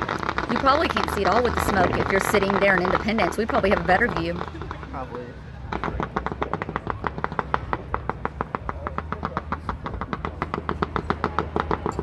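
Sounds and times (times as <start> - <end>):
fireworks popping and cracking: 0.0 - 12.0.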